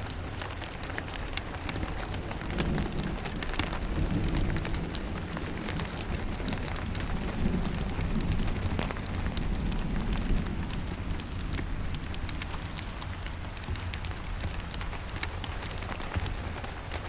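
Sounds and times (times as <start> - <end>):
fireplace crackles: 0.0 - 17.0
steady rain: 0.0 - 17.0
distant thunder rumble: 1.7 - 16.6.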